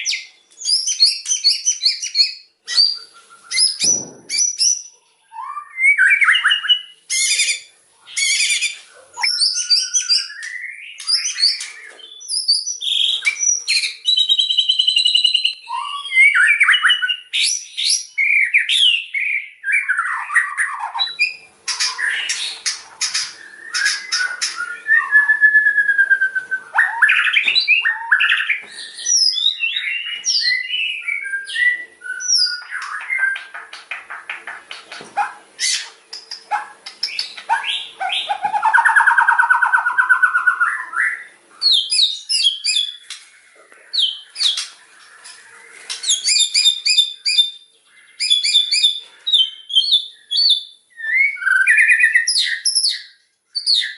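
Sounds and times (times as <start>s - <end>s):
bird singing whistles and trills: 0.0s - 33.6s, 35.2s - 43.2s, 44.0s - 53.9s.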